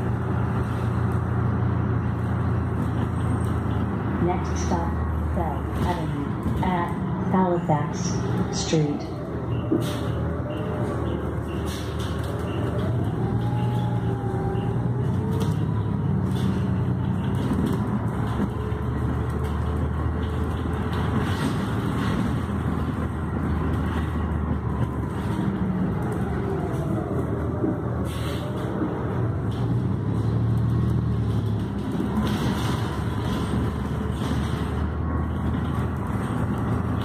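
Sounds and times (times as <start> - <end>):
bus engine drone: 0.0 - 37.0
road noise: 0.0 - 37.0.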